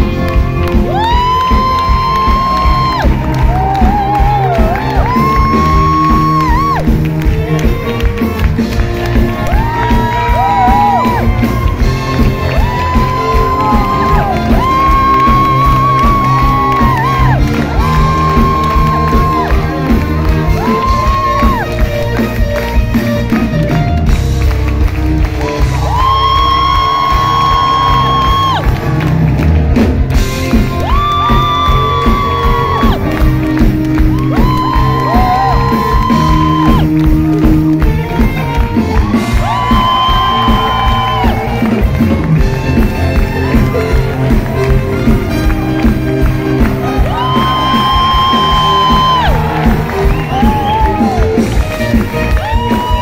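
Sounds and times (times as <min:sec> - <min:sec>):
audience clapping and cheering: 0:00.0 - 0:53.0
musical theatre music: 0:00.0 - 0:53.0.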